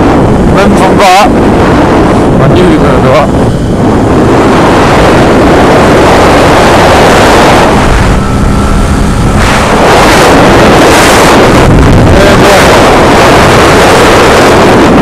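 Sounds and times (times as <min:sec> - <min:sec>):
faint motorcycle engine: 0:00.0 - 0:15.0
wind buffeting microphone: 0:00.0 - 0:15.0.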